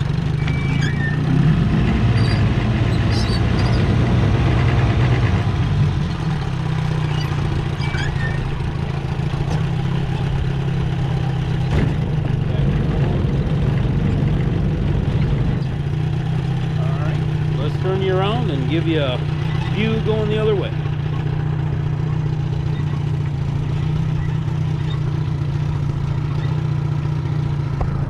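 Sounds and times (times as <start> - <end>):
outboard motor running: 2.3 - 28.0.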